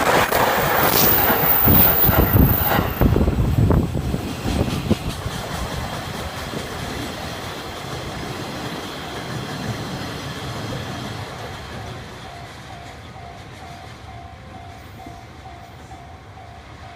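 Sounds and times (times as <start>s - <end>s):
freight train rumbling and clattering: 0.0s - 16.9s.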